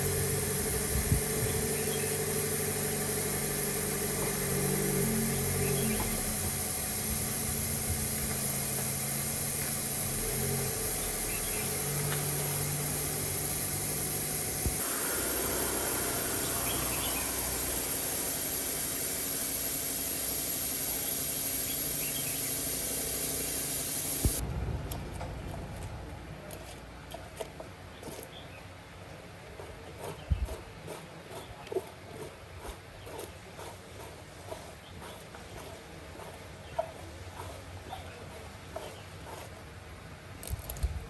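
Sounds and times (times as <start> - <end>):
workshop machine whining and humming: 0.0 - 27.0, 29.9 - 40.7.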